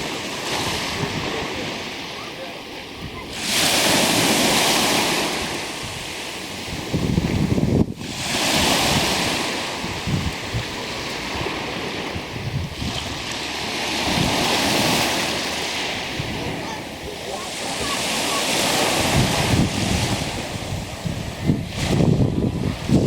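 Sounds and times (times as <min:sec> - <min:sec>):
wind buffeting microphone: 0:00.0 - 0:02.0, 0:02.8 - 0:23.0
waves breaking on shore: 0:00.0 - 0:23.0.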